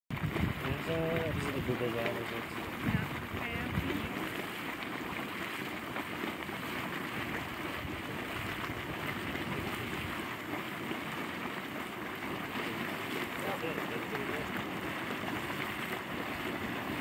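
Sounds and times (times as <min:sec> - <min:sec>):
hot spring splashing and bubbling: 0:00.1 - 0:17.0
wind: 0:00.1 - 0:17.0.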